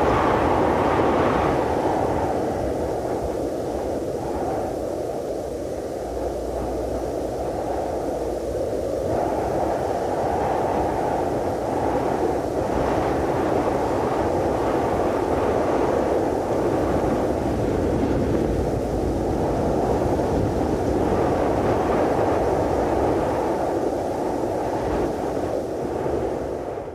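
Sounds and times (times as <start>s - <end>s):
low rushing wind: 0.0s - 26.9s.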